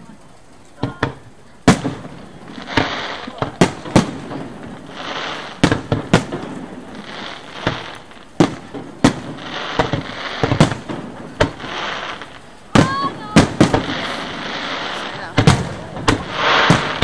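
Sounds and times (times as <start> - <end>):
firework hiss and crackle: 0.0 - 17.0
firework shell bursts: 0.8 - 17.0.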